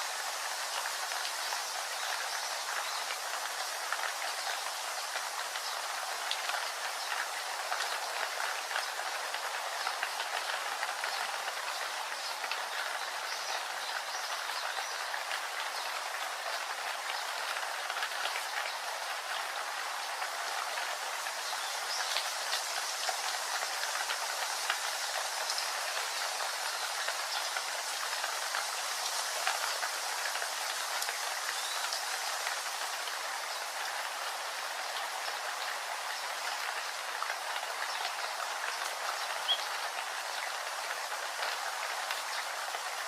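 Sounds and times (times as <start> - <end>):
steady rain: 0.0 - 43.0.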